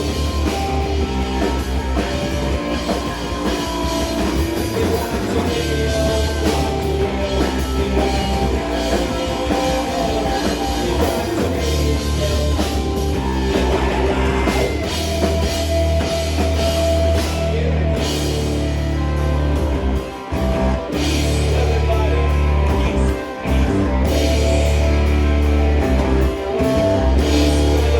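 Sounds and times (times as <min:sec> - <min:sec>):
rock band playing: 0:00.0 - 0:27.9.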